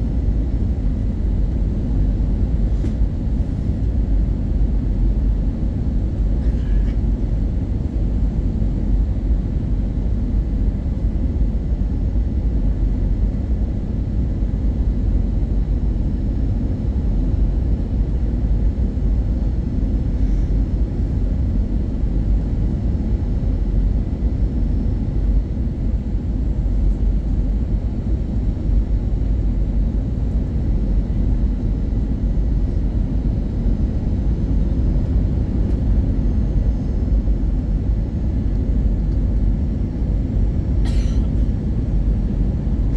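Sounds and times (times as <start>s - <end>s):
aircraft cabin low rumble: 0.0s - 42.9s.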